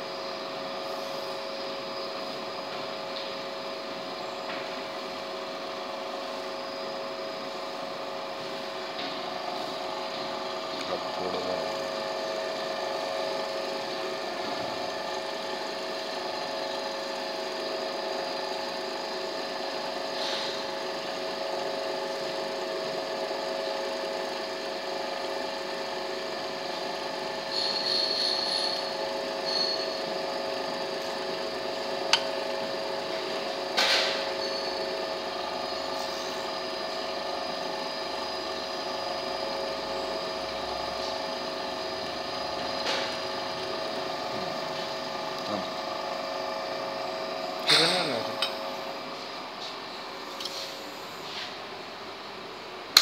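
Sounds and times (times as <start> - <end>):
bench drill humming: 6.0 - 20.0, 20.8 - 49.6.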